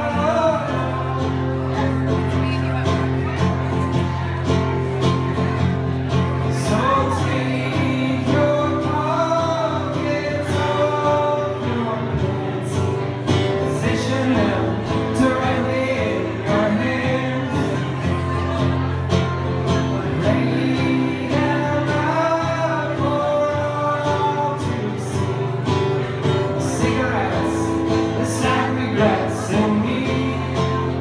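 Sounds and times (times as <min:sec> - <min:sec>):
man singing: 0:00.0 - 0:02.6, 0:06.2 - 0:31.0
acoustic guitar chords: 0:00.0 - 0:31.0.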